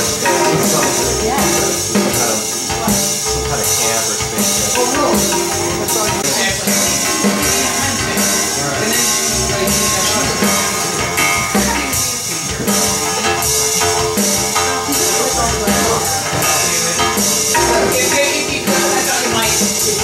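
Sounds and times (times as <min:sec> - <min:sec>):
electronic ambient music: 0:00.0 - 0:20.0.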